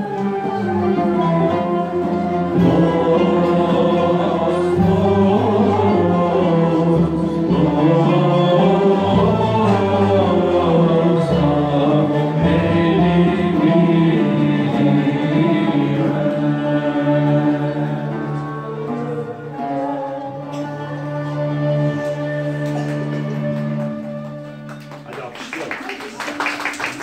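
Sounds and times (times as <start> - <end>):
instrumental accompaniment: 0.0 - 25.7.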